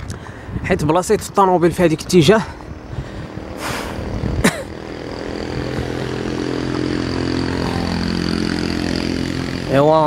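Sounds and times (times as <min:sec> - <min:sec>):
vehicle engine running: 0:01.6 - 0:10.0.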